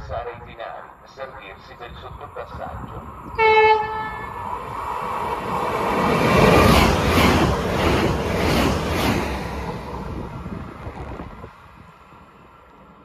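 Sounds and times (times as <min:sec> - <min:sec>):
train passing at speed: 0:00.8 - 0:13.0.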